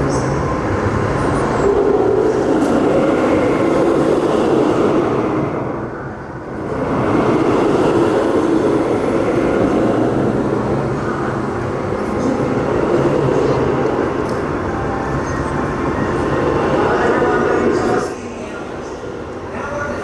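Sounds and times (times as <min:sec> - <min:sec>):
roller coaster wheels rumbling: 0:00.0 - 0:20.0.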